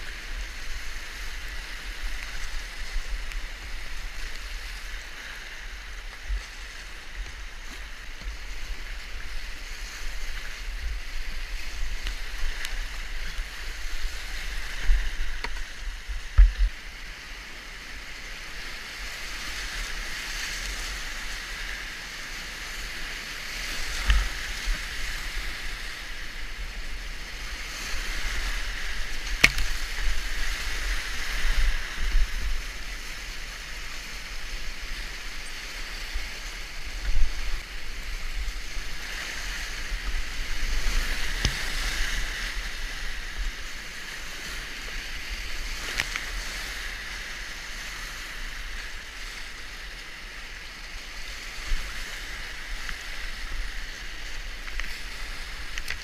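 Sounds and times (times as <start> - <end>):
paddle splashes: 0.0 - 56.0.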